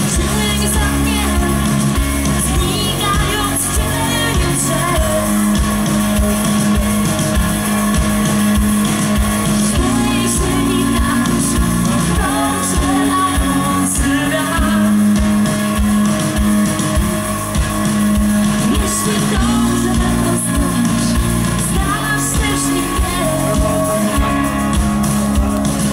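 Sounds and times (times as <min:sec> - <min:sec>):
bass notes: 0:00.0 - 0:25.9
drum kit with cymbals: 0:00.0 - 0:25.9
electric guitar: 0:00.0 - 0:25.9.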